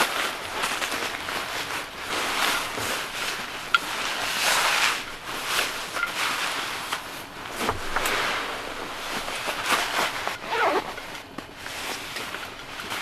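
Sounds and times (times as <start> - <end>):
nylon sleeping bag rustling: 0.0 - 13.0.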